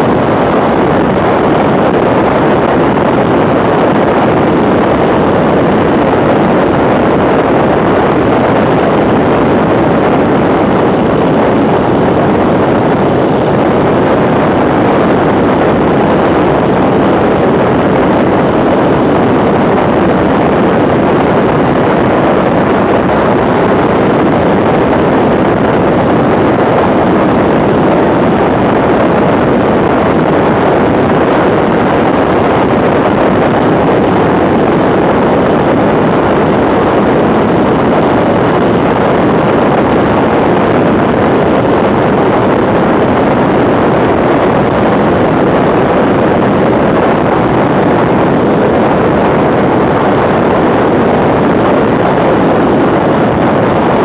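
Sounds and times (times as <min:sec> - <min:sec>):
wind buffeting camera: 0:00.0 - 0:54.0.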